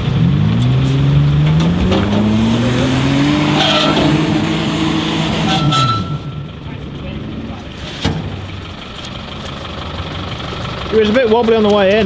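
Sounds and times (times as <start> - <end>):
engine pulling away: 0.0 - 12.0.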